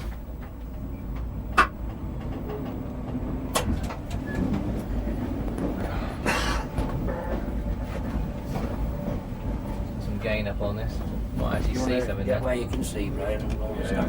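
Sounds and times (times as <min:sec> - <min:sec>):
train cab rumble: 0:00.0 - 0:14.0.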